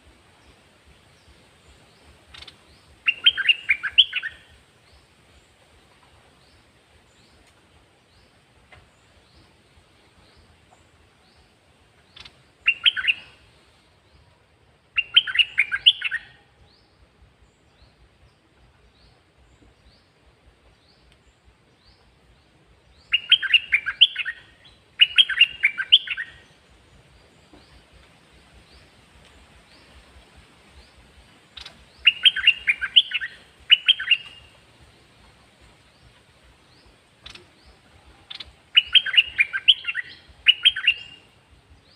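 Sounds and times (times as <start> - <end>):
songbird singing whistled notes: 0.4 - 5.5, 8.1 - 20.2, 20.8 - 41.9.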